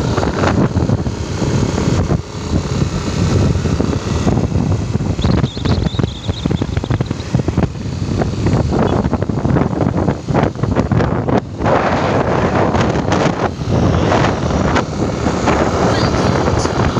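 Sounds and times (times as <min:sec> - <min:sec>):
vehicle rumble on road: 0:00.0 - 0:16.9
wind buffeting microphone: 0:00.0 - 0:16.9.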